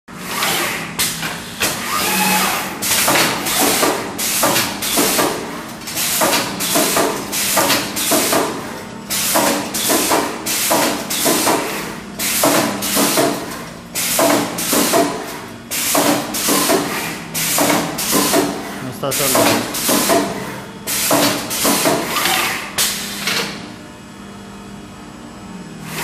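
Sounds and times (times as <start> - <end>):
welding machine hissing and knocking: 0.2 - 23.6.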